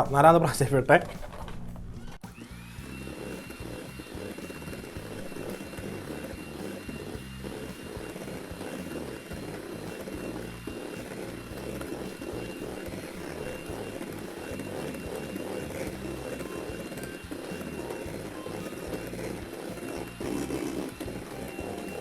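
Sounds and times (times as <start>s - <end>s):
electric mixer whining: 1.8s - 22.0s.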